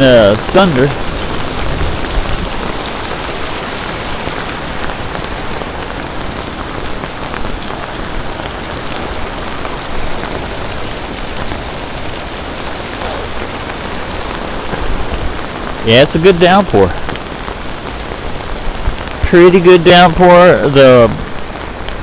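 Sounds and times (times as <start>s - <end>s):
rain pattering on nylon hood: 0.0s - 22.0s.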